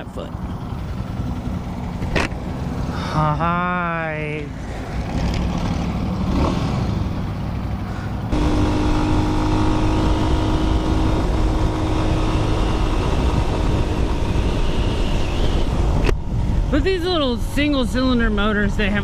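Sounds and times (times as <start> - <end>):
motorcycle engine running: 0.0 - 3.7, 5.1 - 19.0
road noise: 0.0 - 19.0.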